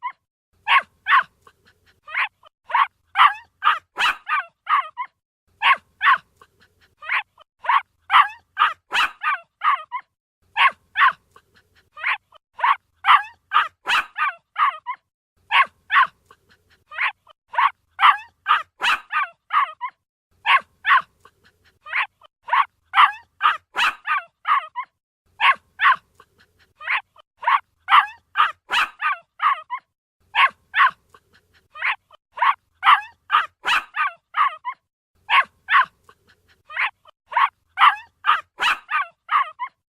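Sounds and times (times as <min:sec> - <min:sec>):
puppy yipping: 0:00.0 - 0:39.8.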